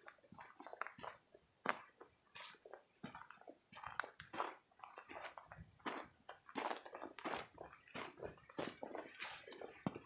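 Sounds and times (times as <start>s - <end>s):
footsteps crunching on a trail: 0.0s - 10.0s.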